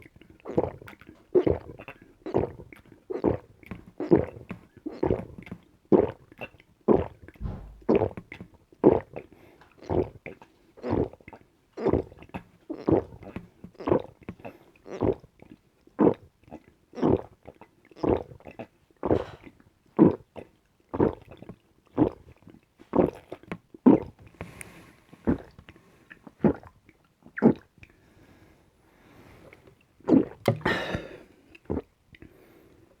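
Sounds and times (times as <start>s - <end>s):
person gulping a drink: 0.0s - 28.0s, 29.4s - 32.4s.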